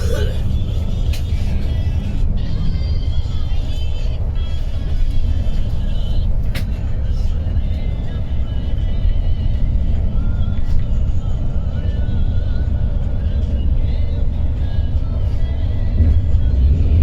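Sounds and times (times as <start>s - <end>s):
coach engine and tyres rumbling: 0.0s - 17.0s
faint music: 0.0s - 17.0s.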